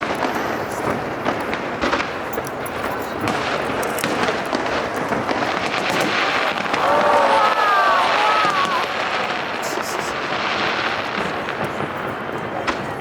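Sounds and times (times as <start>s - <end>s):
crowd noise: 0.0s - 13.0s
fireworks popping and banging: 0.0s - 13.0s.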